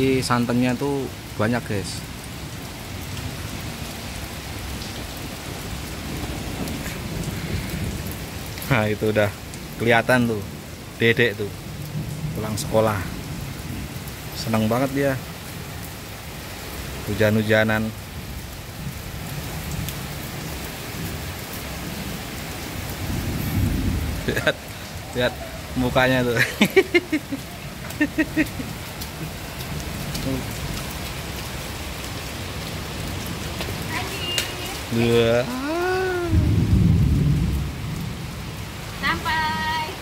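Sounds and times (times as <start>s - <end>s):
rain on leaves and pavement: 0.0s - 40.0s.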